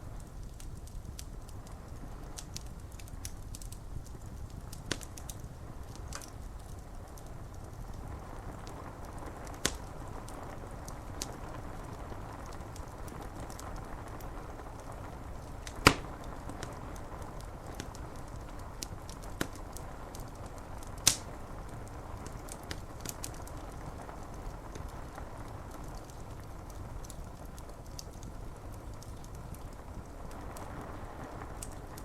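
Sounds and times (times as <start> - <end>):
wood fire crackling and popping: 0.0 - 32.0
rain hissing: 3.8 - 27.6, 28.3 - 32.0.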